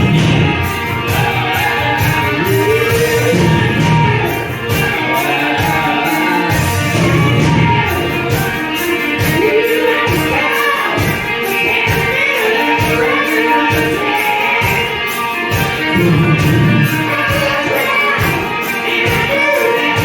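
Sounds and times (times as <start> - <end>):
band music with singing: 0.0 - 20.0.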